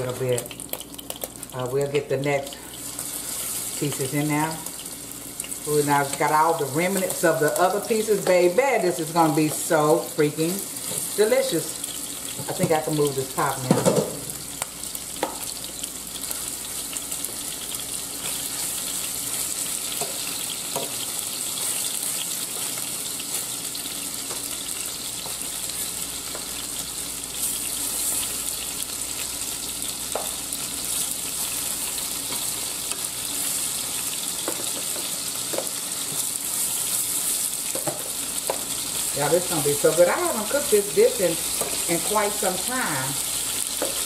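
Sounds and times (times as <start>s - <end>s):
chicken sizzling in oil: 0.0s - 44.0s.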